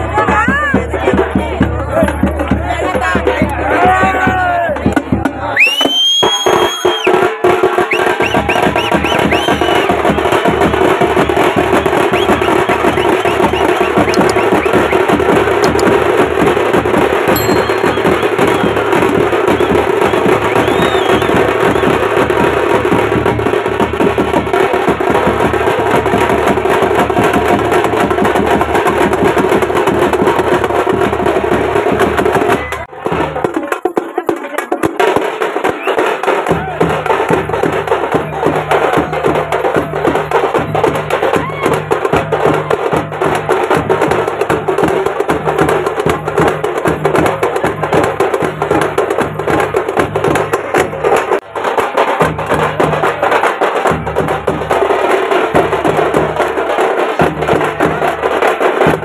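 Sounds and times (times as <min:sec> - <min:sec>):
crowd voices: 0:00.0 - 0:16.4, 0:17.3 - 0:59.0
fast stick drumming: 0:07.9 - 0:59.0.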